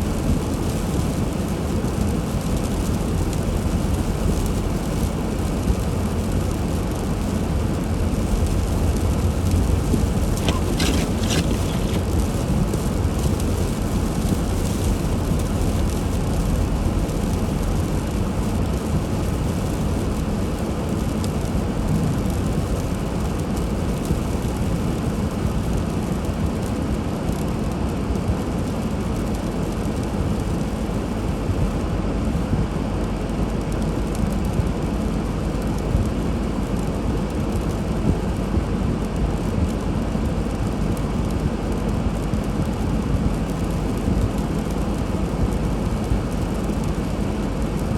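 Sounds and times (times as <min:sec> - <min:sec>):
car road and engine noise: 0:00.0 - 0:47.9.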